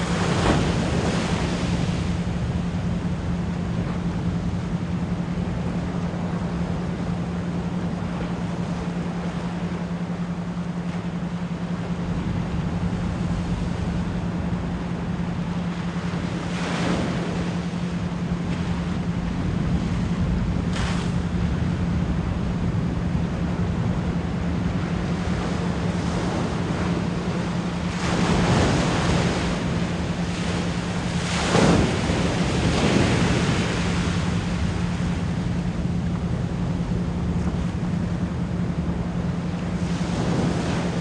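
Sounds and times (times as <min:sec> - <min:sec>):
continuous pure tone: 0:00.0 - 0:41.0
ocean waves washing: 0:00.0 - 0:41.0.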